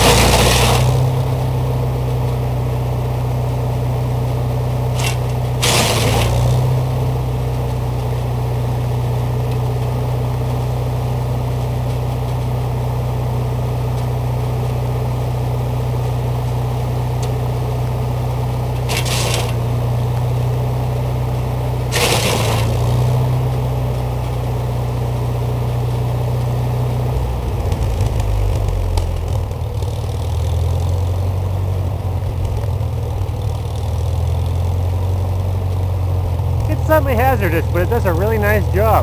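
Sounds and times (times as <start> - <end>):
chipper crunching brush: 0.0 - 25.1, 26.1 - 39.0
wood chipper engine running: 0.0 - 39.0.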